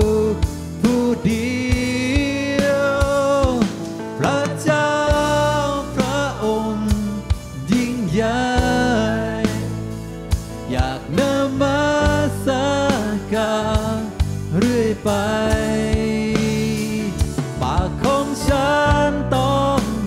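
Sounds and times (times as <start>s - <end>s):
band playing worship music: 0.0s - 20.0s.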